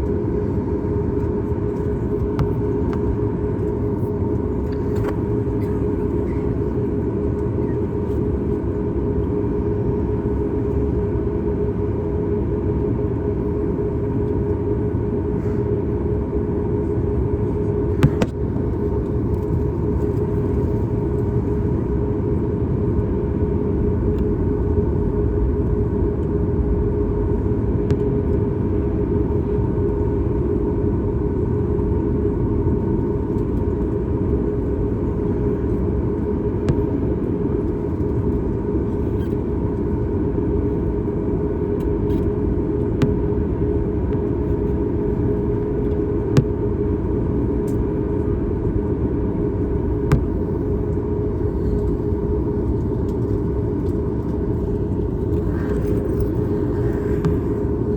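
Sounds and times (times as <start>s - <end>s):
airplane cabin drone: 0.0s - 57.9s.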